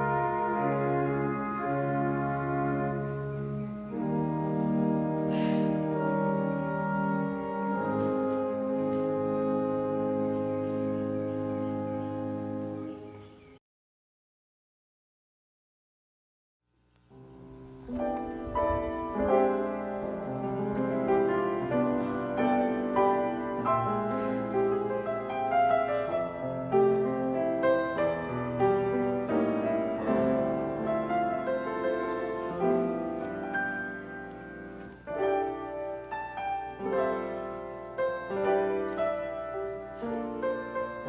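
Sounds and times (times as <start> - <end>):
slow piano piece: 0.0 - 13.6, 17.1 - 41.0.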